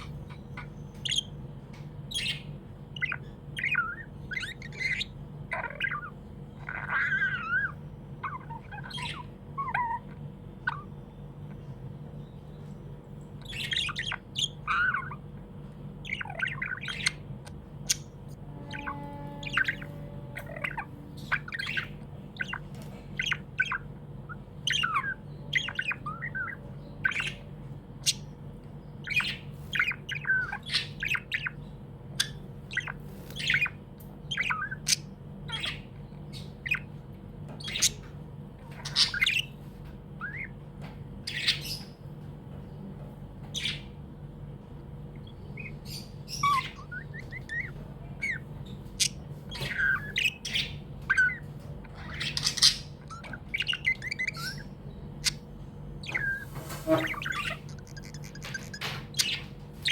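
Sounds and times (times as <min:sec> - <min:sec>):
budgerigar chirping and squawking: 0:00.0 - 0:42.0, 0:43.5 - 0:44.0, 0:45.0 - 0:59.9
steady low hum: 0:00.0 - 0:59.9.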